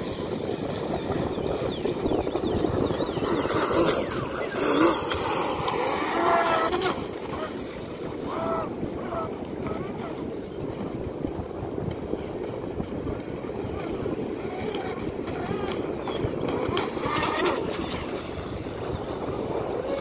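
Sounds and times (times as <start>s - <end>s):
electric speedboat running: 0.0s - 20.0s
water at shoreline: 0.0s - 20.0s
wind on microphone: 0.0s - 20.0s.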